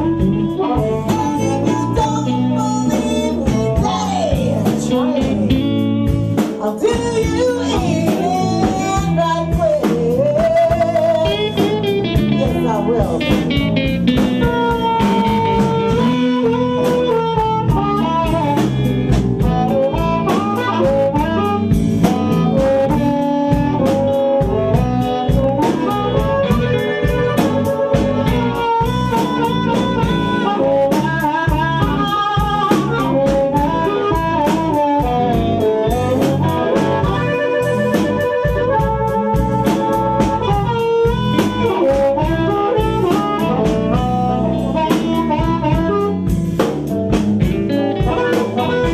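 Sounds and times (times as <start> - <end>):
amplified blues harmonica solo: 0.0 - 48.9
live band with drums and guitar: 0.0 - 48.9.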